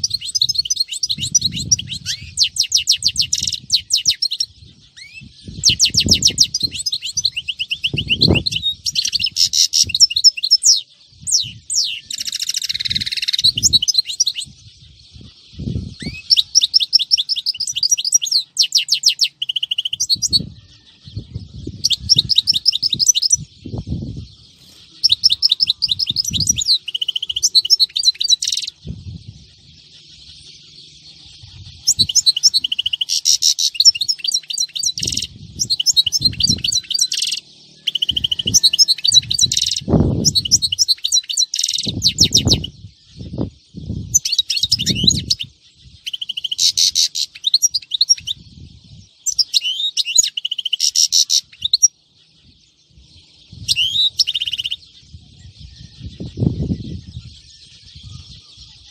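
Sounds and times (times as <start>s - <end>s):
finch twittering song: 0.0s - 58.9s.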